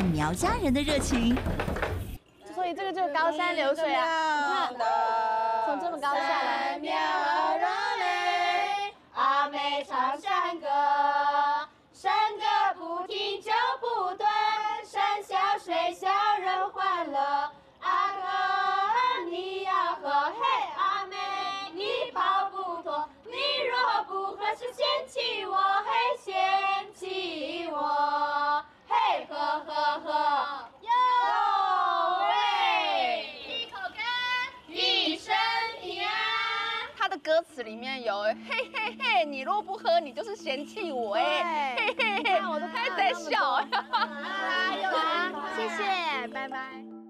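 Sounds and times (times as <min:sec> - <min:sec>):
women singing high held notes: 0:03.8 - 0:37.0, 0:38.3 - 0:47.0.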